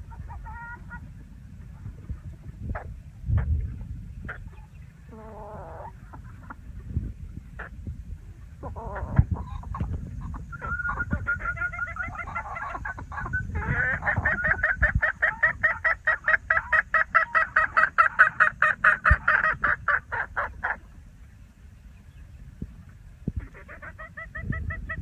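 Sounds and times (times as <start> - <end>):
chickens calling: 0.0 - 21.1, 21.9 - 25.0.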